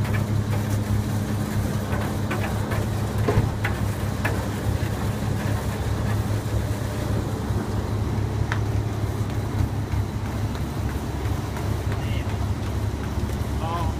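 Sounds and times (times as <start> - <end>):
boat engine droning: 0.0 - 13.9.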